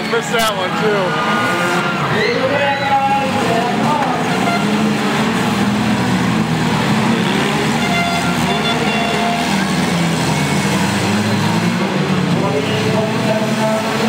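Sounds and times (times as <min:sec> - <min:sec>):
car engines running: 0:00.0 - 0:14.0.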